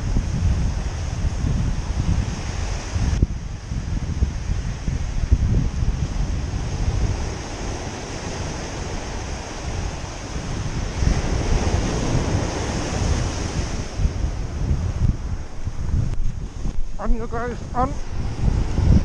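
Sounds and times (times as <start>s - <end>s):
surf washing up beach: 0.0s - 19.0s
wind buffeting microphone: 0.0s - 19.0s.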